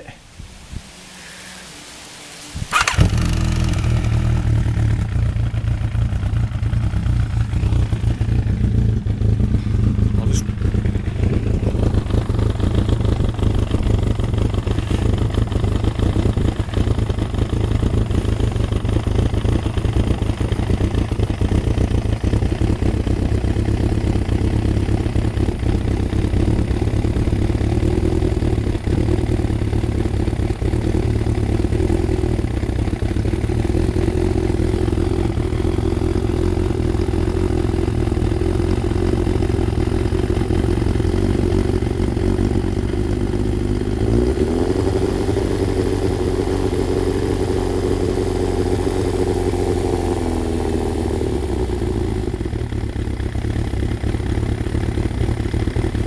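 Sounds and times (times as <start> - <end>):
motorcycle engine idling: 2.6 - 56.0.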